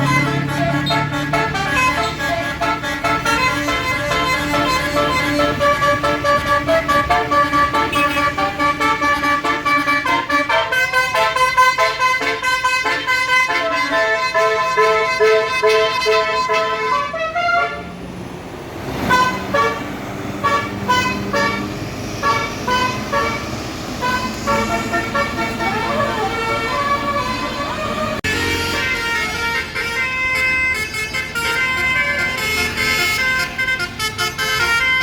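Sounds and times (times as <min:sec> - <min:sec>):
musical air horn tune: 0:00.0 - 0:17.9, 0:19.1 - 0:35.0.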